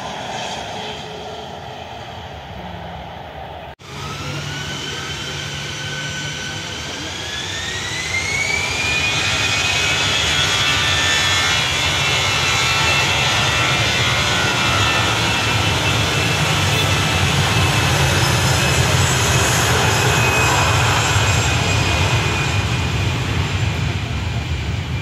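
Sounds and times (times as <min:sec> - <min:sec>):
jet engines spooling up: 0:00.0 - 0:25.0.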